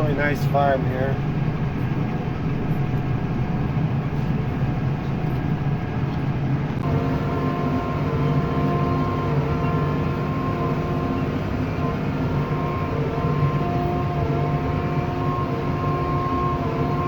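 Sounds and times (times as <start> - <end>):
road and driveline noise: 0.0 - 17.0
steady higher tones: 0.0 - 17.0
vehicle engine running: 0.0 - 17.0.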